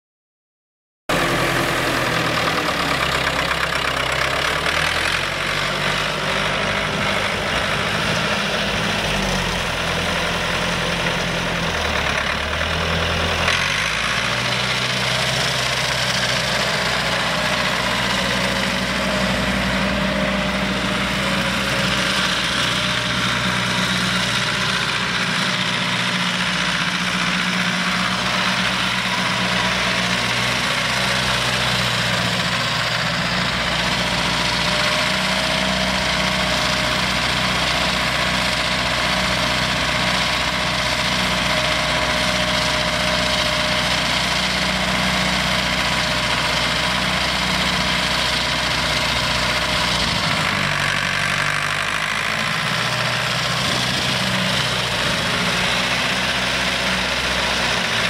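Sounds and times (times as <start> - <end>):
tractor diesel engine idling: 1.1 - 58.0.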